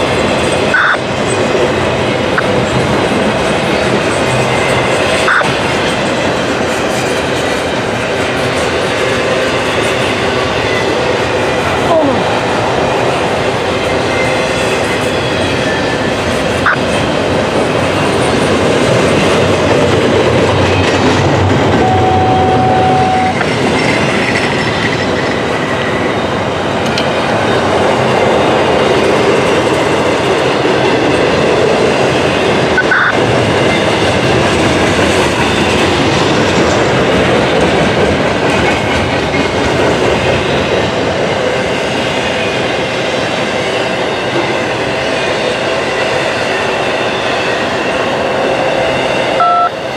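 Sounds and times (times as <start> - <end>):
train wheels on rails: 0.0 - 49.9.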